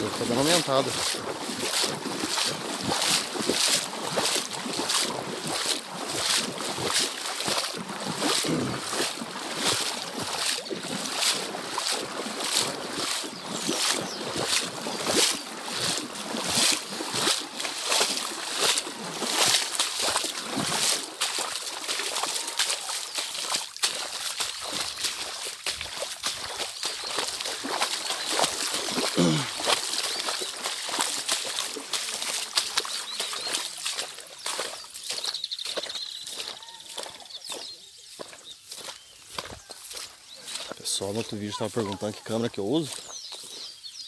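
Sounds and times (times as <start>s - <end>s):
footsteps wading through water: 0.0s - 44.0s.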